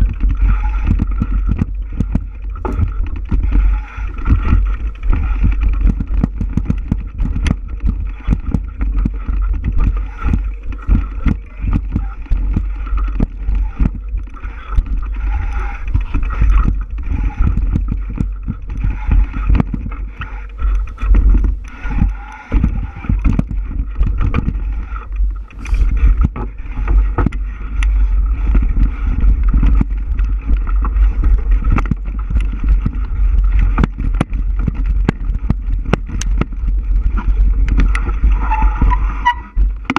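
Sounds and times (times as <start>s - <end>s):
bike knocking and rattling: 0.0s - 39.9s
low rumble: 0.0s - 39.9s
wind buffeting microphone: 0.0s - 39.9s.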